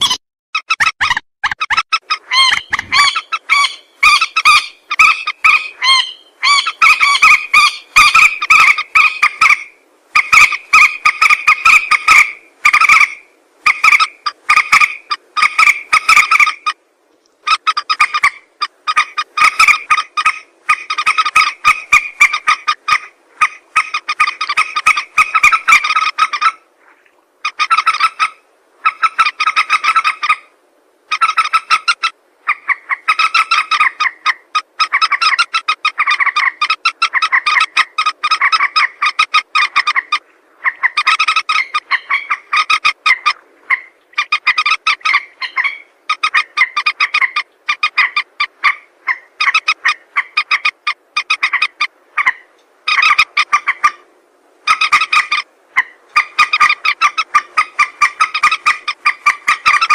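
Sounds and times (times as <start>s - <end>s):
moorhen calling: 0.0s - 26.7s, 27.4s - 59.9s.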